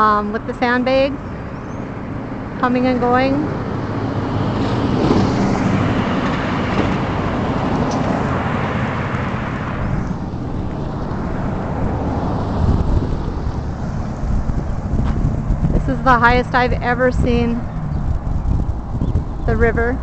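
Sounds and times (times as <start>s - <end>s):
low traffic rumble: 0.0s - 20.0s
vehicle passing close: 0.0s - 20.0s.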